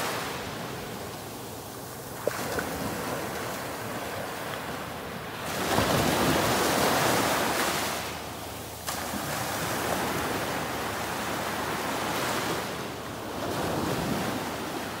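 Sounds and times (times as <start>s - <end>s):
small waves washing up beach: 0.0s - 15.0s.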